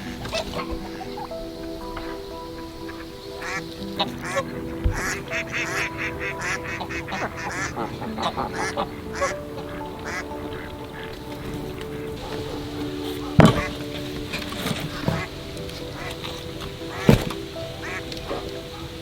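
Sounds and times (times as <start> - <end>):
background music with held notes: 0.0 - 19.0
bird calls: 0.0 - 19.0.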